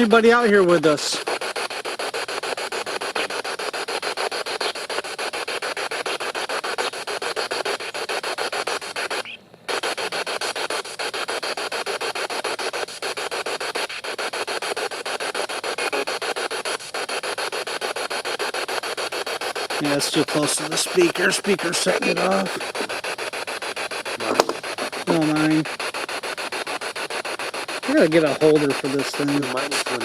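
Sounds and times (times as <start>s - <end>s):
radio static sweeping: 0.0s - 30.0s.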